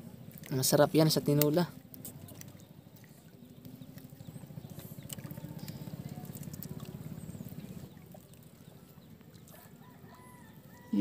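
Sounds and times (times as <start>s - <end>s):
small boat engine putter: 0.3s - 10.9s.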